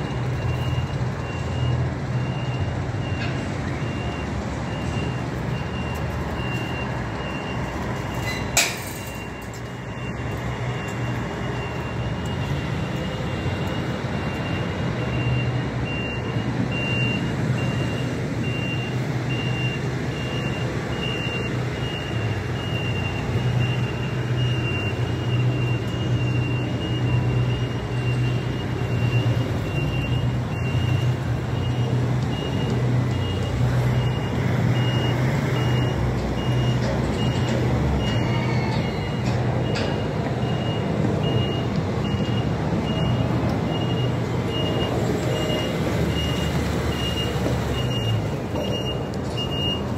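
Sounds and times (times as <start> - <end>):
heavy machine engine running: 0.0 - 49.9
reversing alarm beeping: 0.0 - 49.9.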